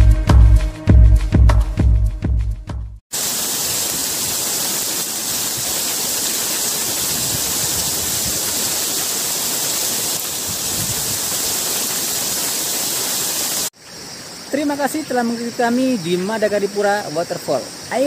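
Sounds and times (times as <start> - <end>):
waterfall hissing: 3.1 - 18.0.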